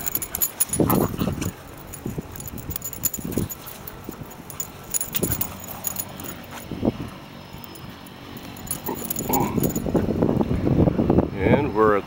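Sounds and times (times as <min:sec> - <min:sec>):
puppies making dog noises: 0:00.0 - 0:10.2
light jingling: 0:00.0 - 0:10.5.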